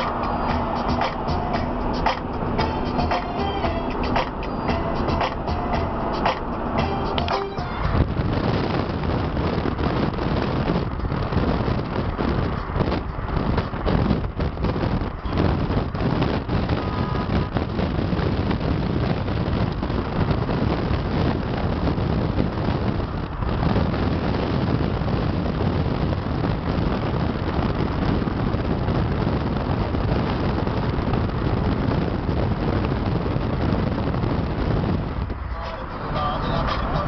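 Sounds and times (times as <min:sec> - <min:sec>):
wind and road noise in car: 0:00.0 - 0:37.0
wind buffeting microphone: 0:00.0 - 0:37.0.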